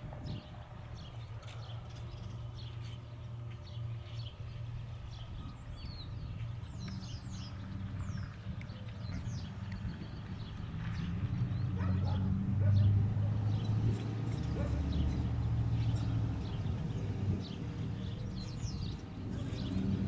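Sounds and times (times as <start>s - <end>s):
small birds chirping: 0.3s - 20.0s.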